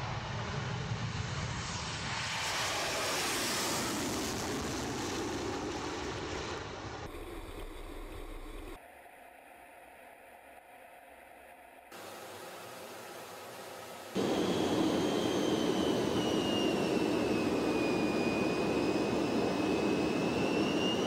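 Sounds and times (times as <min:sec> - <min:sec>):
jet engines roaring: 0:00.0 - 0:08.8, 0:12.0 - 0:21.0.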